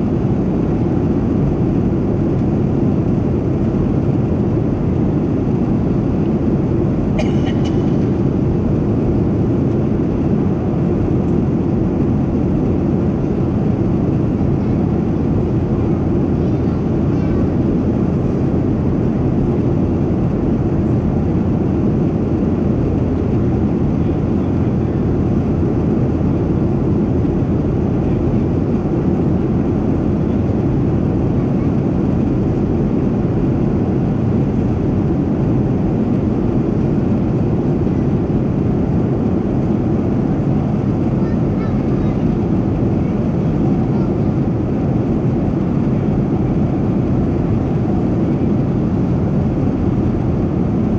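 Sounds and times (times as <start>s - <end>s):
airplane cabin engine noise: 0.0s - 50.9s.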